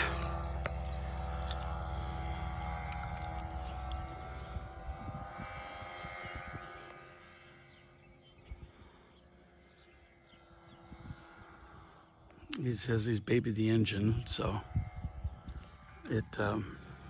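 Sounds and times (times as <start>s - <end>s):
propeller airplane engine: 0.0s - 17.0s
wind rumble on microphone: 0.0s - 17.0s.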